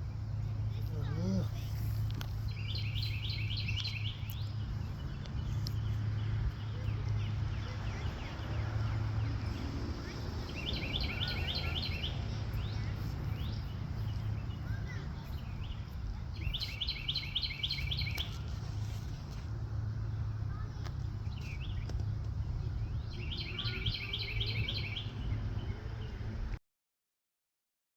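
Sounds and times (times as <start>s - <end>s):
songbird chirping song: 0.0s - 26.6s.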